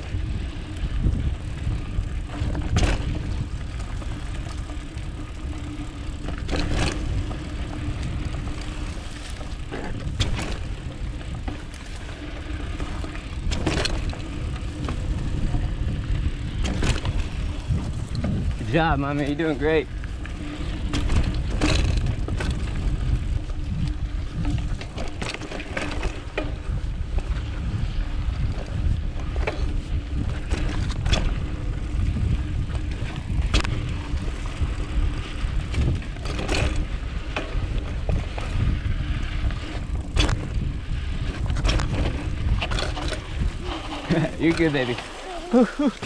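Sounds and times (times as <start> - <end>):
bike clacks and rattles: 0.0 - 46.0
bike tyre noise: 0.0 - 46.0
wind rumble on microphone: 0.0 - 46.0.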